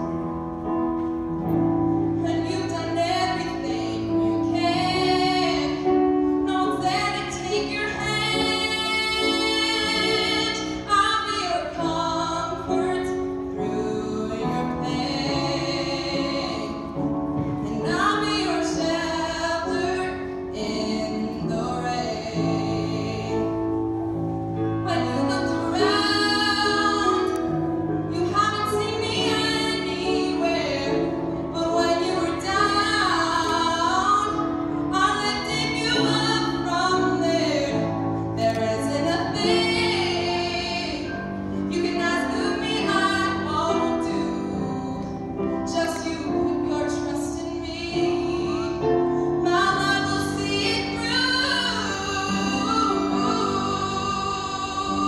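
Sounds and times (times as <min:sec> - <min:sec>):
piano accompaniment: 0:00.0 - 0:55.0
woman singing a ballad: 0:01.5 - 0:55.0.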